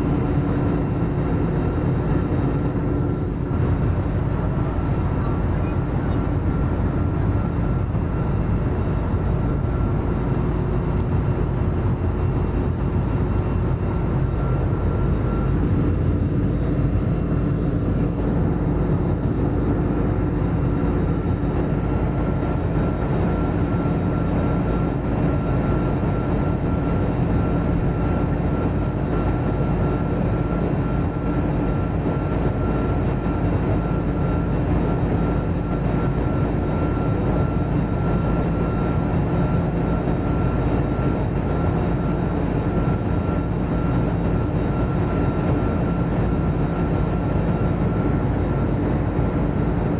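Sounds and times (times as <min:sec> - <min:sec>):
jet cabin engine rumble: 0:00.0 - 0:49.9.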